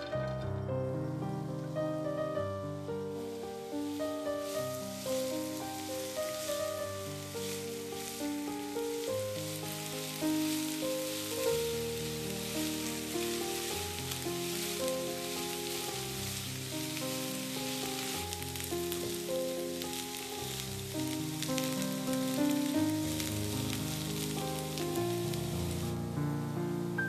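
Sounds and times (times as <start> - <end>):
soft background music: 0.0 - 27.0
food sizzling in a pan: 1.1 - 27.0.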